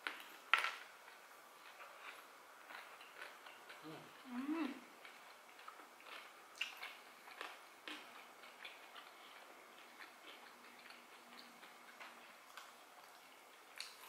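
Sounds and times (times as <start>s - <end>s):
faint chewing with crunches: 0.0s - 14.0s.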